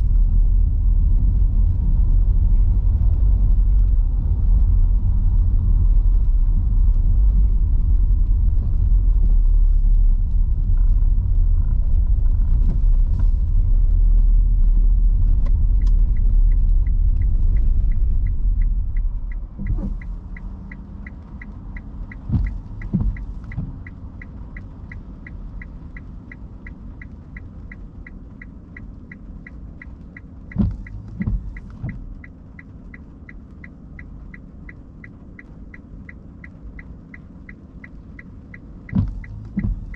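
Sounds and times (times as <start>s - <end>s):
car tyre rumble on wet road: 0.0s - 39.9s
turn signal ticking: 0.0s - 39.9s.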